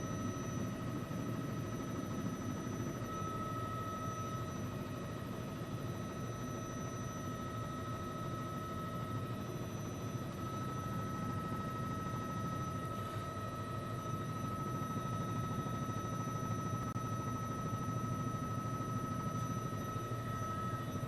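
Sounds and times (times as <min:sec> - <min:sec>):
constant high-pitched tone: 0:00.0 - 0:21.0
helicopter rotor and engine: 0:00.0 - 0:21.0.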